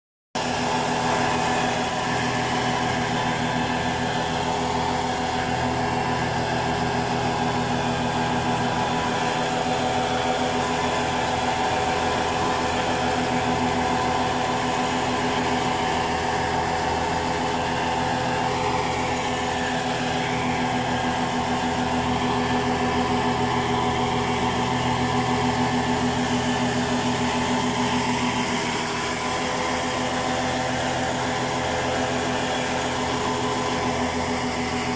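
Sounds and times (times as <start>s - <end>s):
seeder machine mechanical drone: 0.4s - 34.9s.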